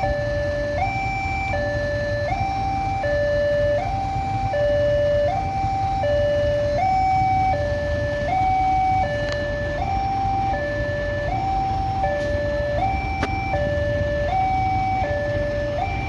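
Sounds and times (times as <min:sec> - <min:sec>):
two-tone crossing warning siren: 0:00.0 - 0:16.0.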